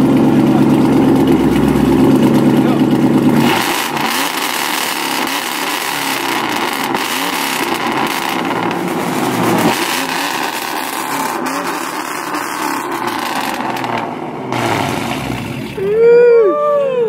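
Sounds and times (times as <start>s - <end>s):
car engine revving: 0.0s - 15.8s.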